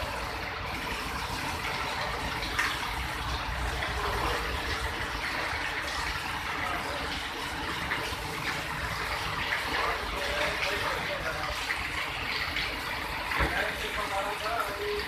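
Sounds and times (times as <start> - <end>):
steady rain: 0.0 - 15.0
water running and trickling: 0.0 - 15.0.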